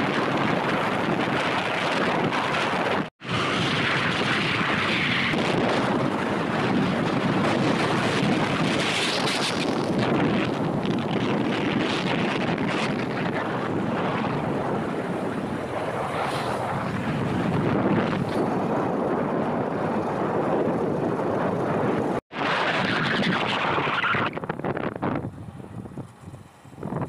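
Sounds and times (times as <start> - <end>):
moving vehicle rumble: 0.0 - 27.0
wind buffeting microphone: 0.0 - 27.0.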